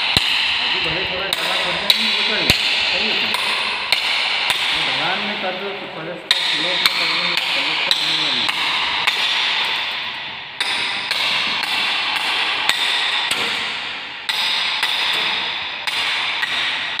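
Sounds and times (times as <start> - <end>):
continuous hiss: 0.0 - 17.0
hammer blows: 0.0 - 17.0.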